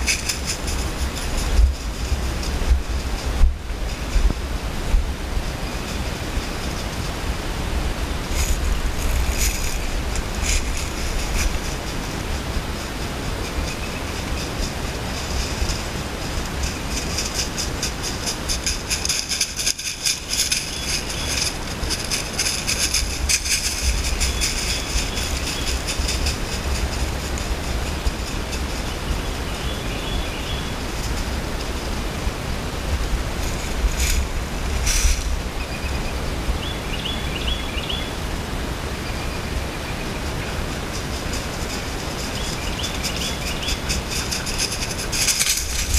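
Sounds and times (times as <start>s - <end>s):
footsteps crunching dry leaves: 0.0s - 4.2s, 7.8s - 35.6s, 40.2s - 45.9s
wind rumbling on microphone: 0.0s - 45.9s.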